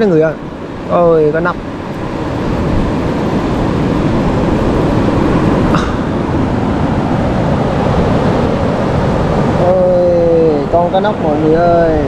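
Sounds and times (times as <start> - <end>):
rough surf rushing: 0.0 - 12.0
wind buffeting microphone: 0.0 - 12.0.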